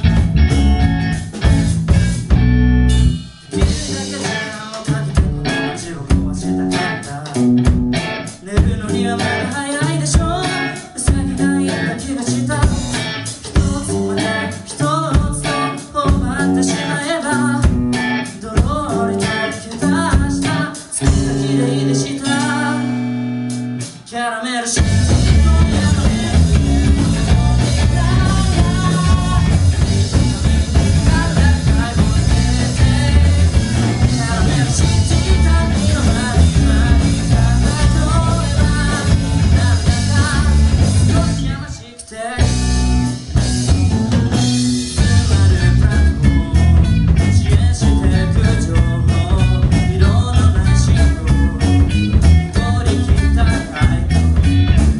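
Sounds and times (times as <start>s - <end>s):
live rock band playing: 0.0s - 54.9s
person singing: 3.5s - 23.1s, 23.9s - 43.2s, 44.4s - 54.9s.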